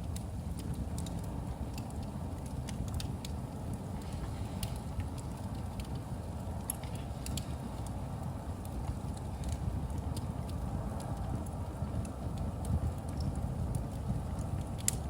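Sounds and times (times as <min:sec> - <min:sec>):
fire crackles and pops: 0:00.0 - 0:15.0
fire flames rumbling: 0:00.0 - 0:15.0.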